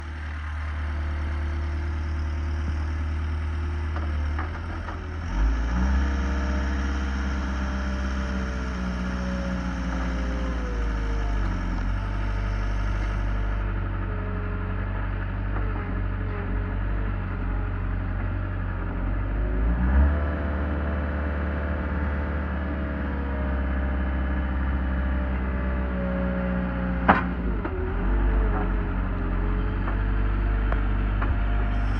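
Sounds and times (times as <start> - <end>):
skid steer engine running: 0.0 - 31.9.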